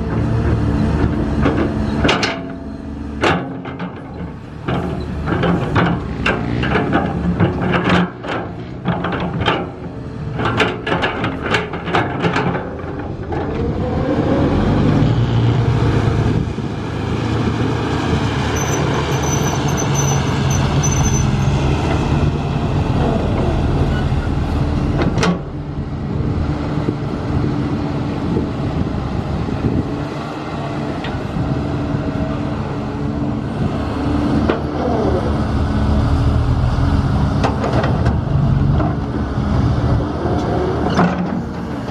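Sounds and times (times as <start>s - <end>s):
heavy vehicle engine running: 0.0s - 41.9s.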